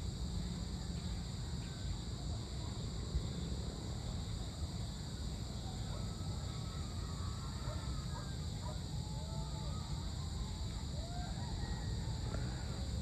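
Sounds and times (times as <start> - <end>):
chorus of insects: 0.0 - 13.0.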